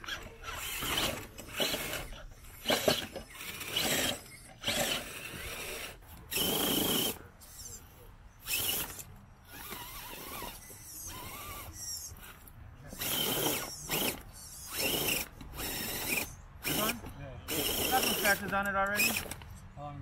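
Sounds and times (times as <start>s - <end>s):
rc truck motors whining: 0.0s - 19.6s.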